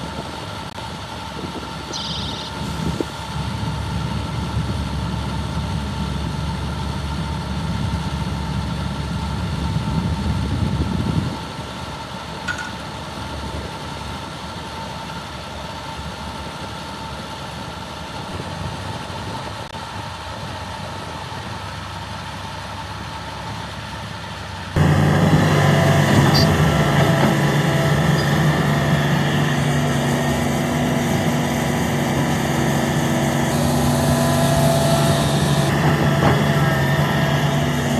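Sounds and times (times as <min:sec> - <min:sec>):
excavator diesel engine: 0:00.0 - 0:13.5, 0:14.2 - 0:37.9.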